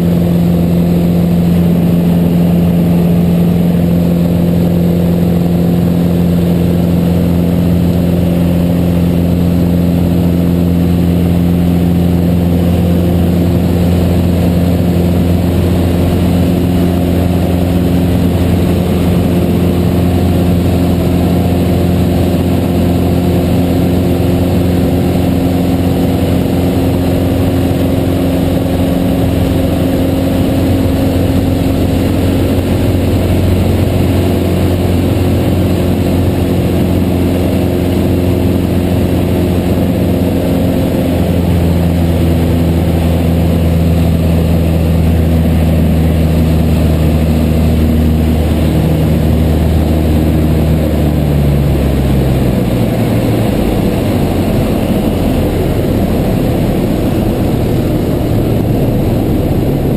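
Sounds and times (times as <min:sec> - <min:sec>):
aircraft engine and propeller droning: 0:00.0 - 0:59.9.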